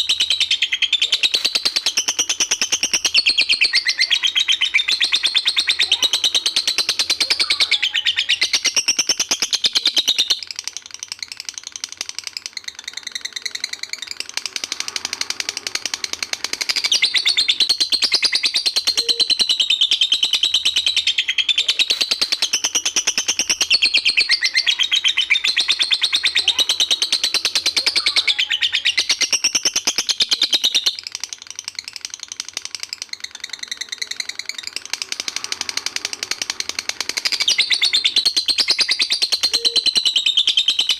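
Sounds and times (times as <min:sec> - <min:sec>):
lovebird chattering trill: 0:00.0 - 0:40.9.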